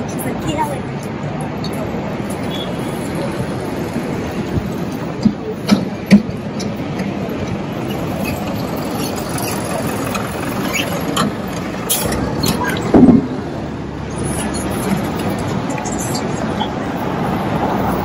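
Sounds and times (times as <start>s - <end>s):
passing vehicles rumbling: 0.0s - 18.0s.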